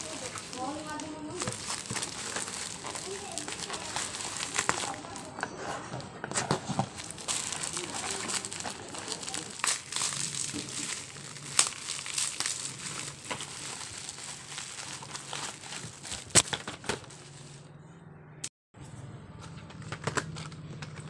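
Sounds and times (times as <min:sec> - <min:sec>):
bubble wrap crinkling: 0:00.0 - 0:17.6.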